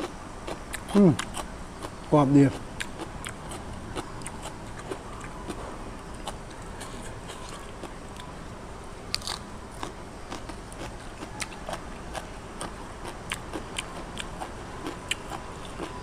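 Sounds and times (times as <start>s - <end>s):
person chewing crunchy food: 0.0s - 8.4s, 9.1s - 16.0s.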